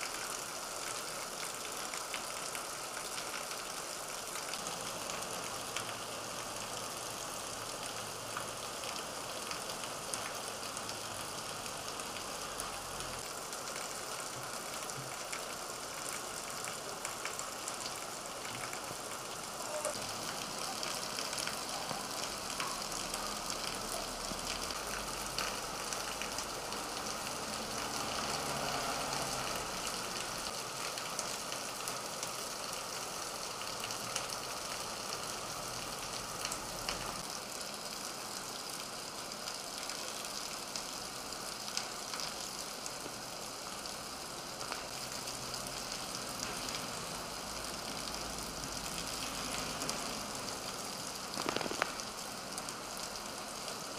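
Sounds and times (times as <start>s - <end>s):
heavy rain on pavement: 0.0s - 53.9s.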